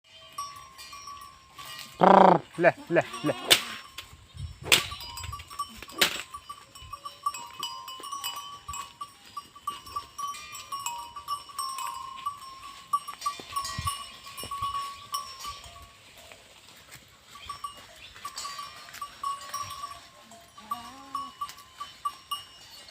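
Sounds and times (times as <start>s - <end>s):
goat bell clinking: 0.0s - 22.9s.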